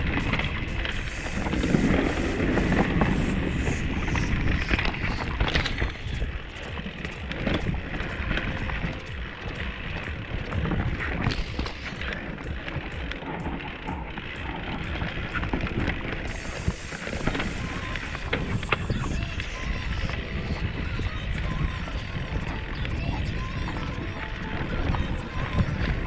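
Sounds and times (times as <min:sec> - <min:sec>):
bike chain and frame rattling: 0:00.0 - 0:26.0
bike tyres on dirt and rock: 0:00.0 - 0:26.0
wind rushing over microphone: 0:00.0 - 0:26.0.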